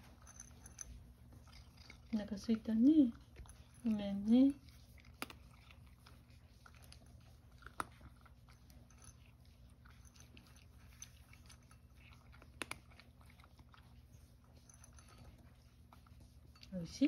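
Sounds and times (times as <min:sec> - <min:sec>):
cat crunching dry kibble: 0:00.0 - 0:16.5.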